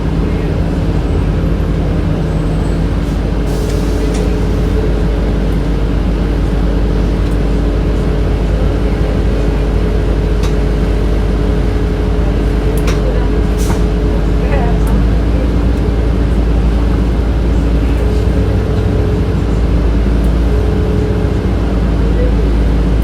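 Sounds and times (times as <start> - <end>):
bus ventilation hum: 0.0 - 23.0
low rumble of bus running: 0.0 - 23.0.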